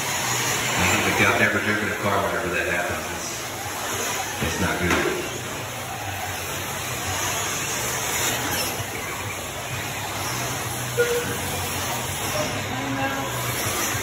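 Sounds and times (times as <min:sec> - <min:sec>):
rc cars racing on dirt: 0:00.0 - 0:14.0.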